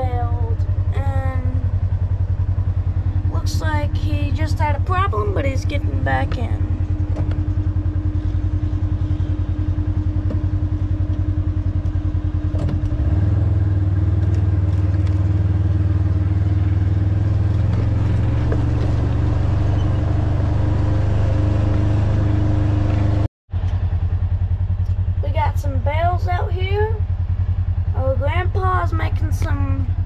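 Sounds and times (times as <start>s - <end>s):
vehicle engine drone: 0.0s - 30.0s.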